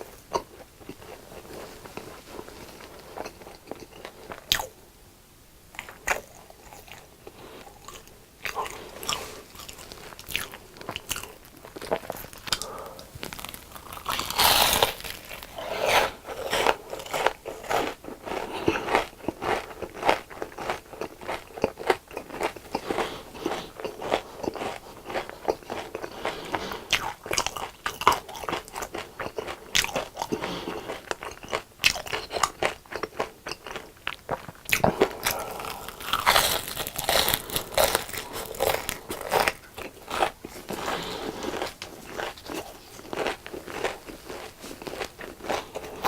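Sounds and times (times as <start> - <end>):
chewing crunchy fried food: 0.0 - 4.8, 5.7 - 46.0.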